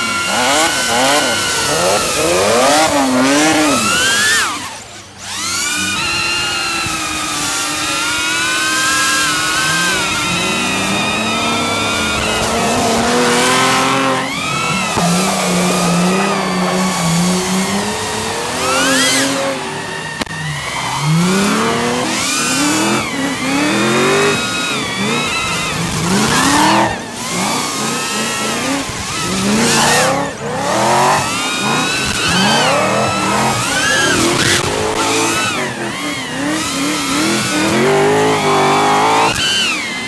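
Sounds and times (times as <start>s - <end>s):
tyre squeal: 0.0s - 4.9s, 5.6s - 40.0s
car engines revving hard: 0.0s - 40.0s.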